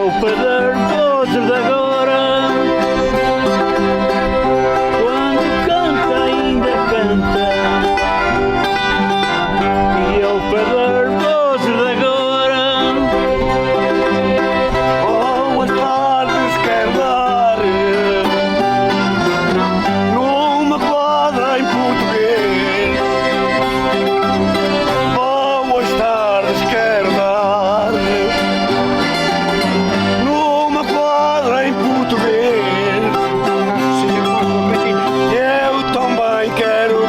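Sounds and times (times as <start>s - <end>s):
accordion: 0.0s - 37.0s
plucked string instruments: 0.0s - 37.0s
voices singing: 0.0s - 37.0s.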